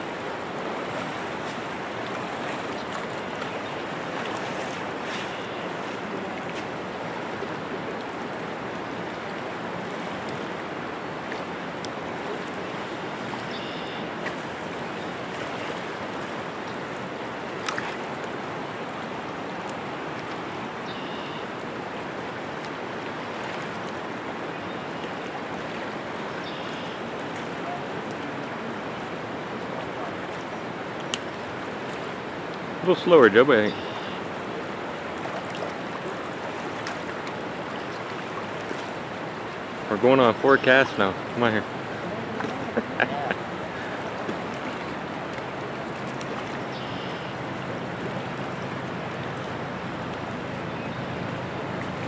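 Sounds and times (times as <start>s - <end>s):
river current rushing: 0.0s - 52.0s.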